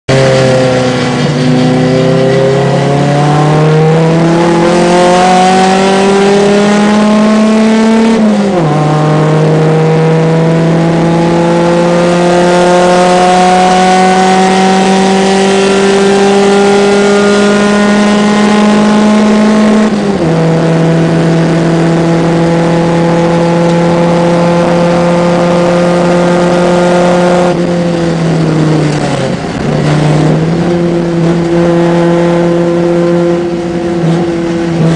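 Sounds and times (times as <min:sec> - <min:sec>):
race car engine at full throttle: 0:00.0 - 0:34.9.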